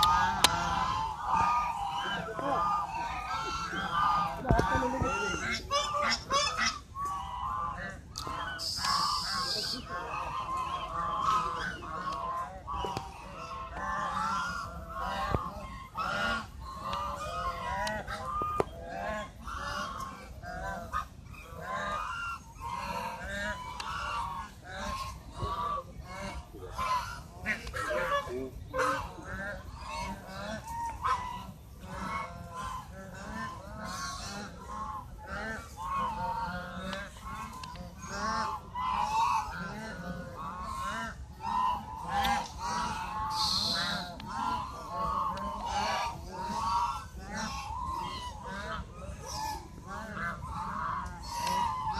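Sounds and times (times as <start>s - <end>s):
geese honking: 0.0s - 51.9s.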